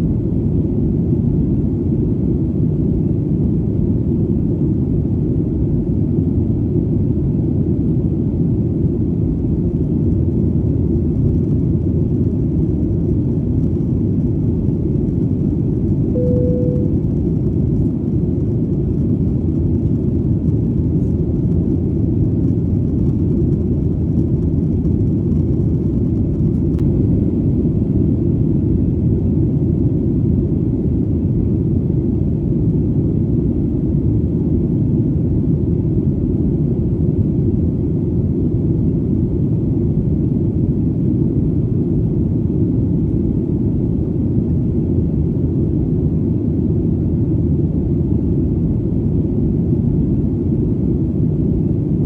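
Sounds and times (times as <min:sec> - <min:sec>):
airplane engine drone: 0:00.0 - 0:52.0.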